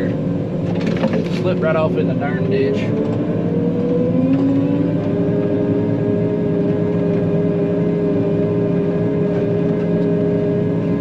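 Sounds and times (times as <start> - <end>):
combine engine drone with whine: 0.0 - 11.0.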